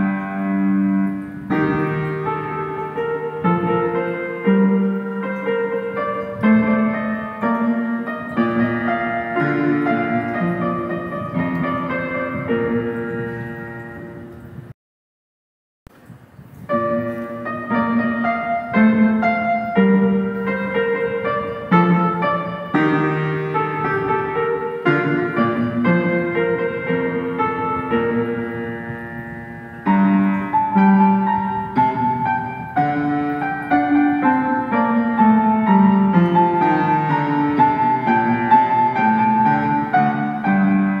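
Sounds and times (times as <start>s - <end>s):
solo piano music: 0.0s - 14.7s, 15.9s - 41.0s.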